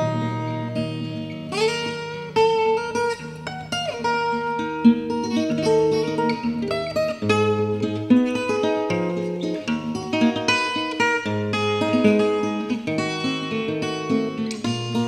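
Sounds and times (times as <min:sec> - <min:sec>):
acoustic guitar picking melody: 0:00.0 - 0:15.0.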